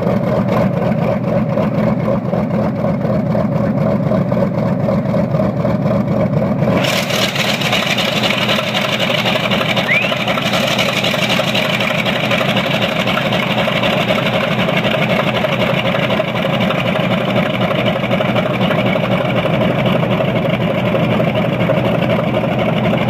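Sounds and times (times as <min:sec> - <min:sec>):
radial aircraft engine running: 0:00.0 - 0:23.0.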